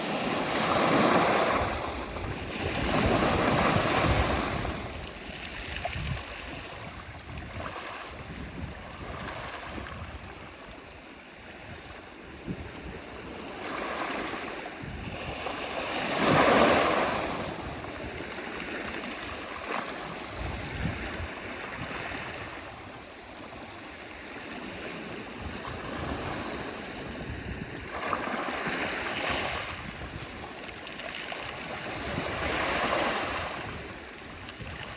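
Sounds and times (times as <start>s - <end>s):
sea waves breaking ashore: 0.0s - 10.4s, 12.1s - 34.9s.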